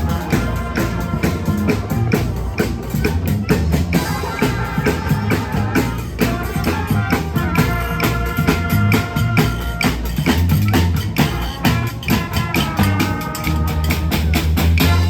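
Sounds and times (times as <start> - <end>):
brass band playing: 0.0 - 15.0
drums steady beat: 0.0 - 15.0.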